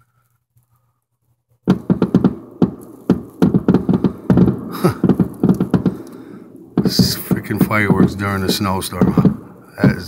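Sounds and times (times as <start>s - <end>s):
firework bangs: 1.6s - 10.0s
firework hiss: 1.7s - 10.0s.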